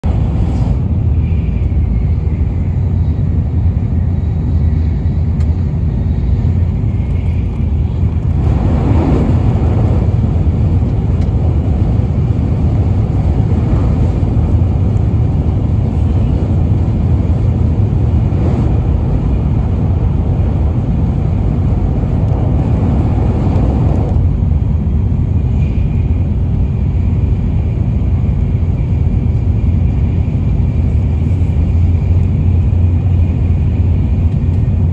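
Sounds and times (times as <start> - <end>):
train cabin rumble and rushing: 0.0 - 34.9.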